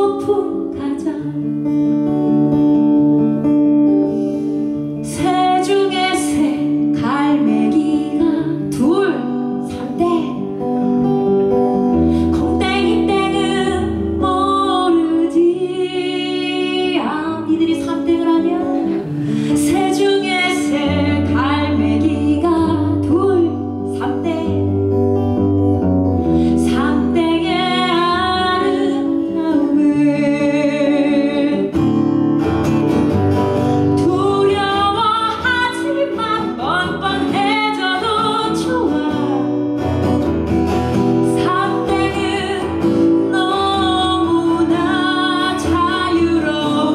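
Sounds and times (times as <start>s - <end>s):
woman singing: 0.0s - 2.6s, 4.9s - 25.0s, 26.2s - 32.2s, 33.6s - 39.8s, 41.0s - 46.9s
acoustic guitar: 0.0s - 46.9s.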